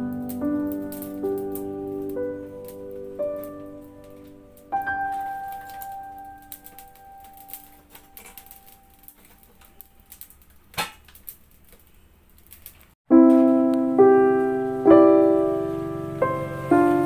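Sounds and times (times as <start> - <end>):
slow piano chords: 0.0 - 10.2, 13.1 - 17.0.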